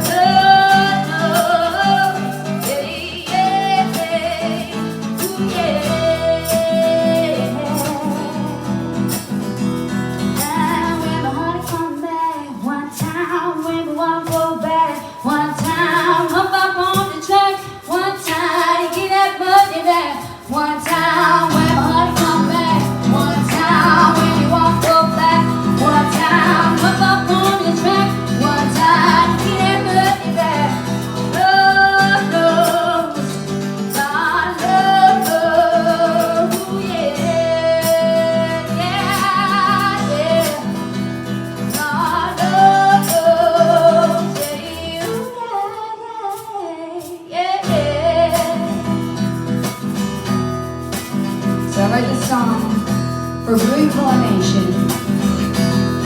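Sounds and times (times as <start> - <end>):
strummed acoustic guitar: 0.0 - 45.8, 47.6 - 56.0
woman singing: 0.0 - 49.9, 51.4 - 56.0.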